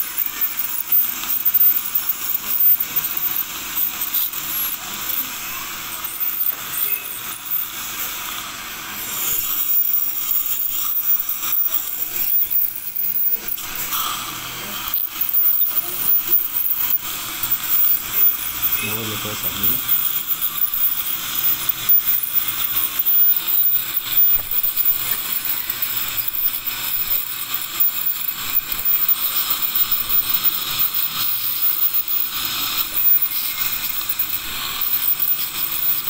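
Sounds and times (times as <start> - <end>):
dental scaler water spray hissing: 0.0 - 36.0.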